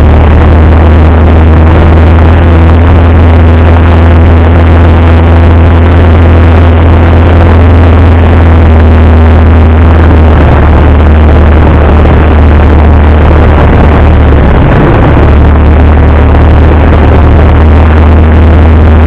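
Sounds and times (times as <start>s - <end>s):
light aircraft engine drone: 0.0s - 19.0s.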